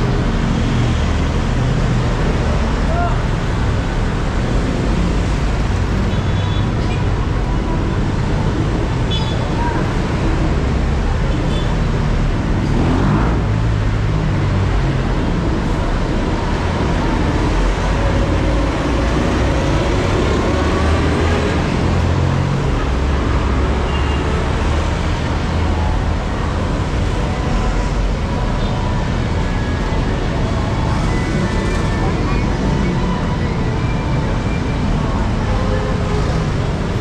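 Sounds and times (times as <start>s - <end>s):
traffic engines rumbling: 0.0s - 37.0s.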